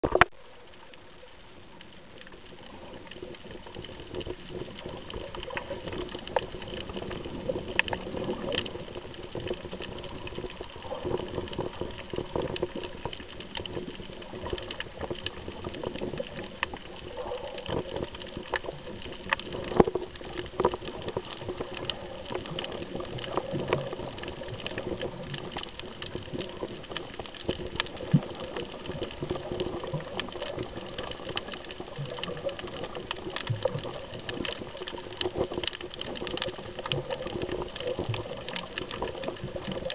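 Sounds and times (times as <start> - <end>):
muffled underwater wash: 0.0 - 39.9
small underwater clicks and pops: 0.0 - 39.9.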